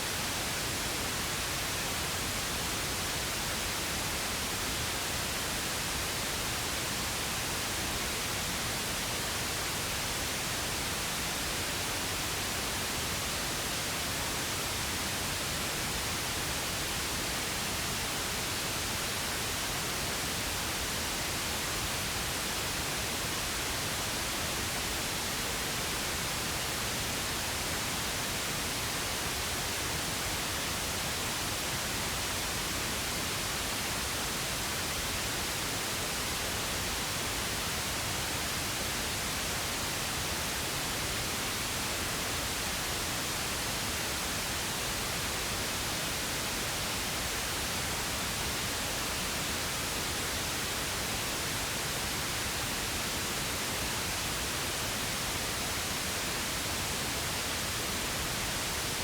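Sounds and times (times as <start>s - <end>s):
pink noise hiss: 0.0s - 59.0s.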